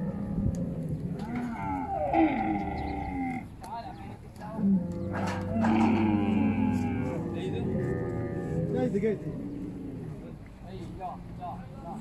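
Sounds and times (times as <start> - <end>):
camels calling: 0.0 - 12.0.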